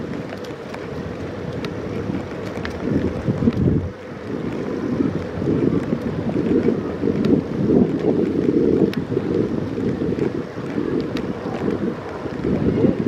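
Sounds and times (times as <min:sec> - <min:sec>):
faint ticks: 0:00.0 - 0:12.6
wind buffeting microphone: 0:00.0 - 0:13.0.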